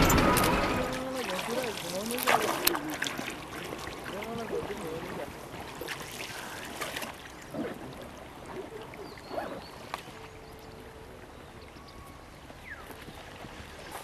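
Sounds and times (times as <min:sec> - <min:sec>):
soft water splashes: 0:00.0 - 0:14.0
water lapping around canoe: 0:00.0 - 0:14.0.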